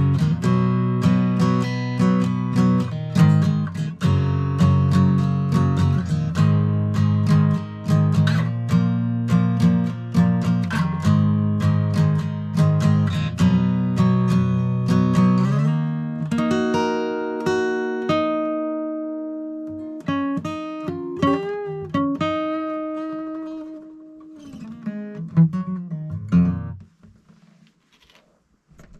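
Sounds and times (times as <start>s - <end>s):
acoustic guitar: 0.0s - 28.9s.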